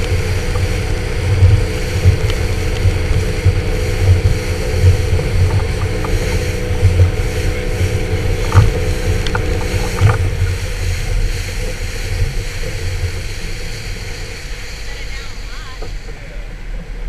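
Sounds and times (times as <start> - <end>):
boat engine droning: 0.0 - 17.0
hull knocking on choppy water: 0.0 - 17.0
wind buffeting microphone: 0.0 - 17.0.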